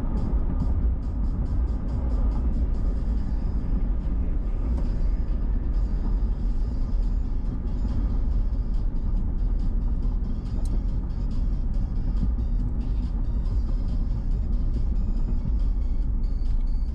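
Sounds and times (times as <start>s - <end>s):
music with steady beat: 0.0s - 16.9s
vehicle road rumble: 0.0s - 16.9s.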